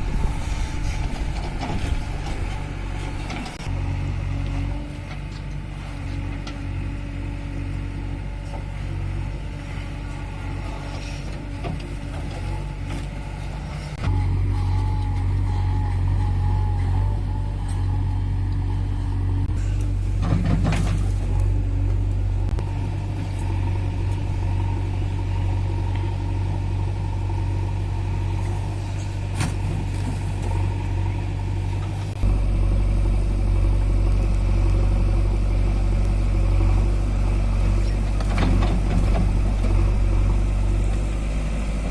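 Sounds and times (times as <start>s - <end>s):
diesel machinery engine drone: 0.0s - 41.9s.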